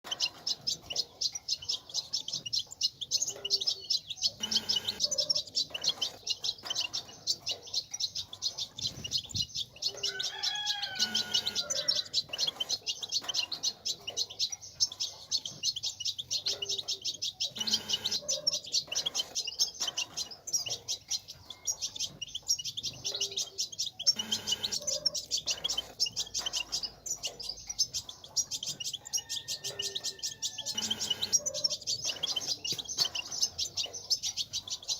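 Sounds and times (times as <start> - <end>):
finch twittering: 0.0 - 34.9.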